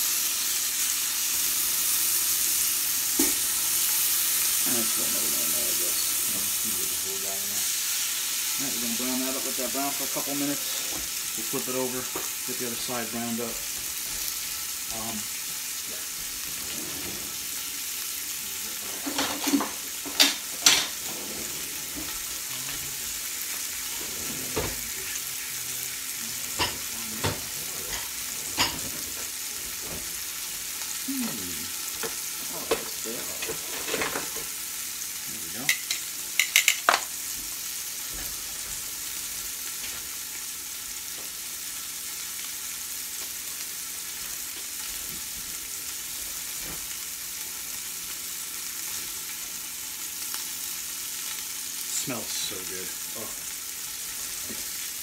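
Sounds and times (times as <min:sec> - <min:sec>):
meat sizzling in oil: 0:00.0 - 0:55.0.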